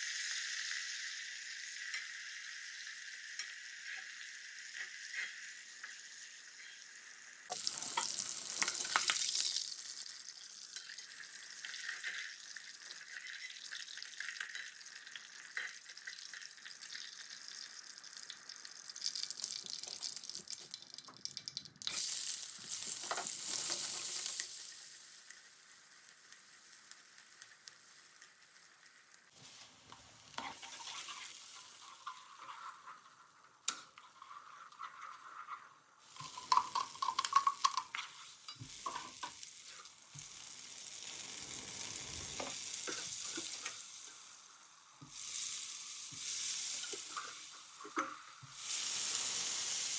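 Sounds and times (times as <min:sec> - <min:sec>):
food sizzling in hot oil: 0:00.0 - 0:49.9.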